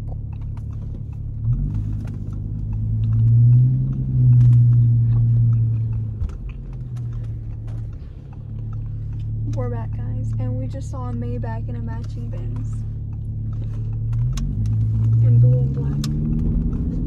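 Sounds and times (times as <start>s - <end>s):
car engine drone from inside cabin: 0.0s - 17.0s.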